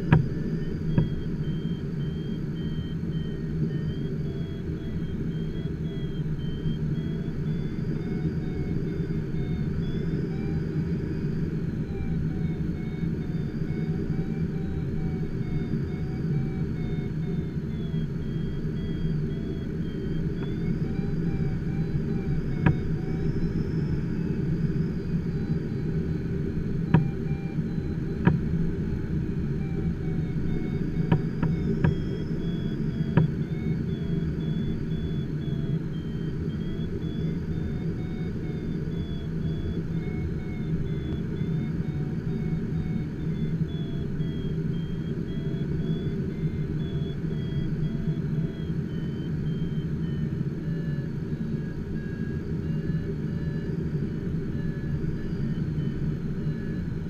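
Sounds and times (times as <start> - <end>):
airflow rumble in cockpit: 0.0 - 57.0.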